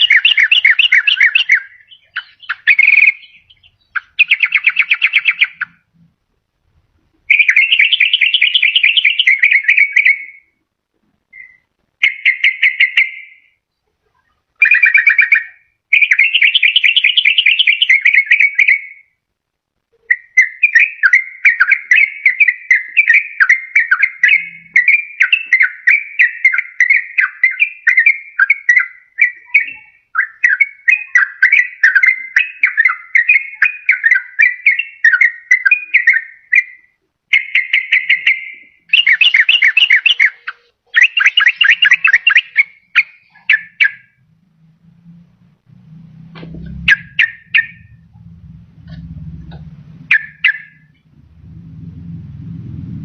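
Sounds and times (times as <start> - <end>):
bulbul chattering song: 0.0 - 6.2, 7.1 - 10.6, 11.3 - 19.1, 19.9 - 51.8.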